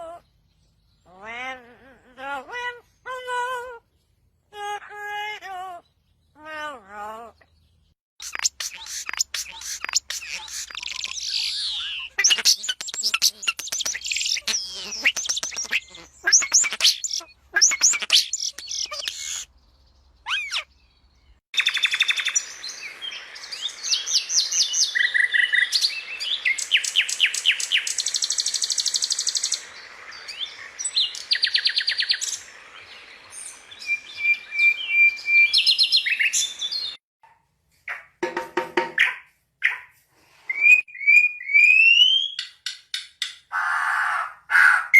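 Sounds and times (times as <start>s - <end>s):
small birds singing: 0.0s - 37.0s.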